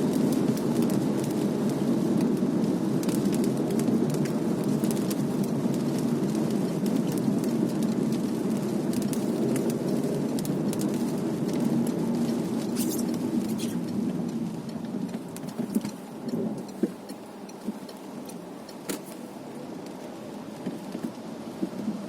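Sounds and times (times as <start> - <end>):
low road rumble: 0.0 - 22.0
raindrops ticking on car: 0.0 - 22.0.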